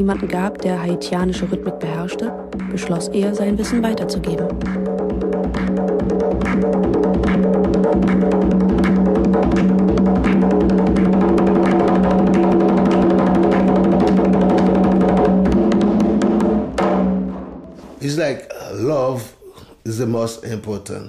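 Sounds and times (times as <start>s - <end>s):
fast dense drumming: 0.0s - 17.6s.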